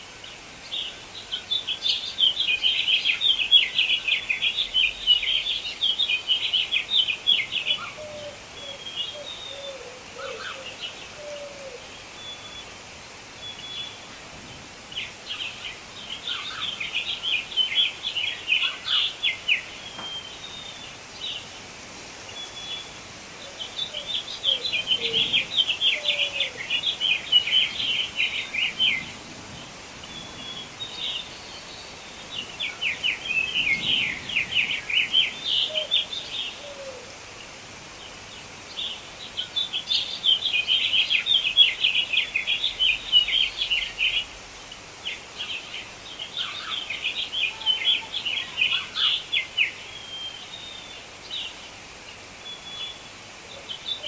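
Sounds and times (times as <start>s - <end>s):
faint steady hiss: 0.0s - 54.0s
songbird singing: 0.0s - 54.0s.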